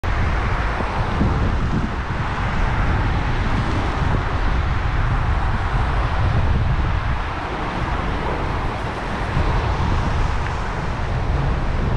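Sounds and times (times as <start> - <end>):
car traffic on wet road: 0.0 - 11.9
wind buffeting microphone: 0.0 - 11.9.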